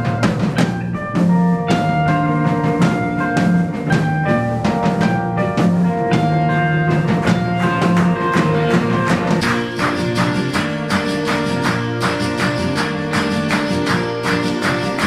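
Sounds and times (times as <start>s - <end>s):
drum kit beat: 0.0s - 15.0s
guitar: 0.0s - 15.0s.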